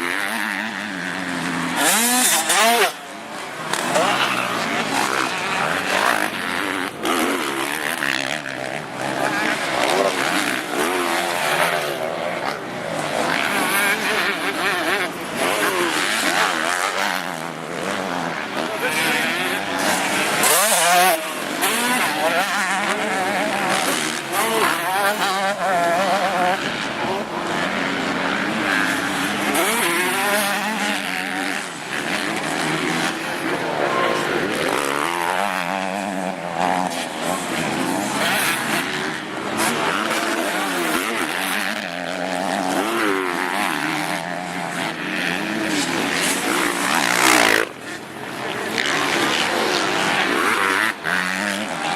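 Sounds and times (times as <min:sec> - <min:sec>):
motocross engines revving: 0:00.0 - 0:51.9.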